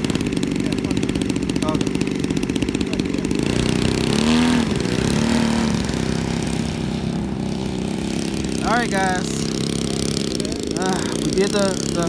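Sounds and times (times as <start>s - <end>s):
model airplane engine revving: 0.0s - 12.0s.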